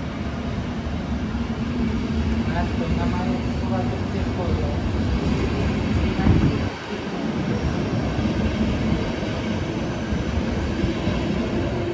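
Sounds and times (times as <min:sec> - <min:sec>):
passenger train rolling: 0:00.0 - 0:11.9.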